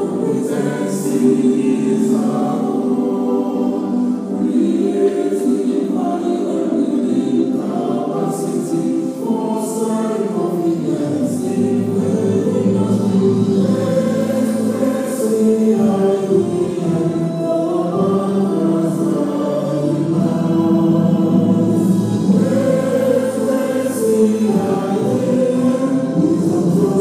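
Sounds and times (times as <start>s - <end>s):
choir singing long notes: 0.0s - 27.0s.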